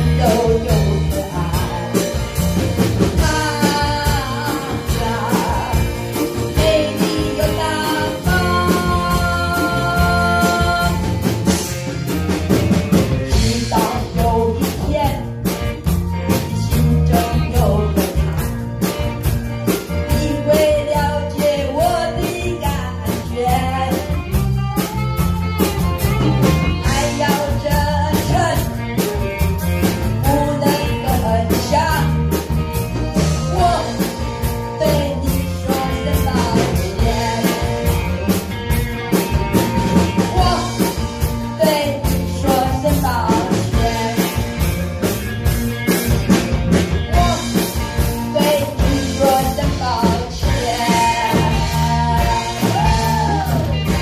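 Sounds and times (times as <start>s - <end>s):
woman singing lead: 0.0s - 45.6s, 46.2s - 54.0s
drum kit: 0.0s - 54.0s
electric guitar: 0.0s - 54.0s.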